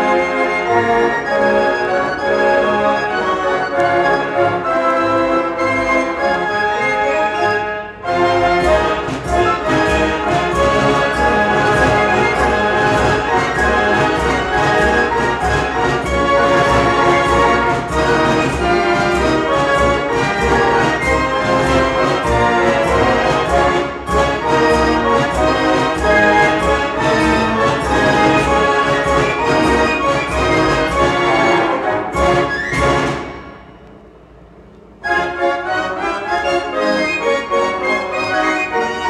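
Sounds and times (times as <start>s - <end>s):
fair organ playing: 0.0s - 39.0s.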